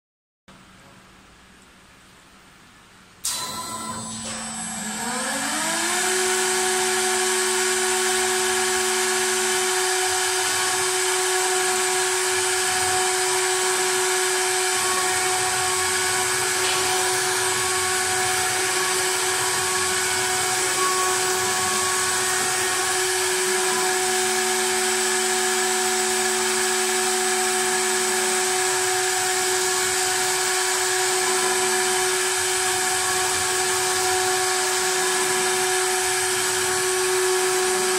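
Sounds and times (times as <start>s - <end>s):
lathe motor whine: 3.2s - 37.9s
cutter hiss carving wood: 6.0s - 37.9s.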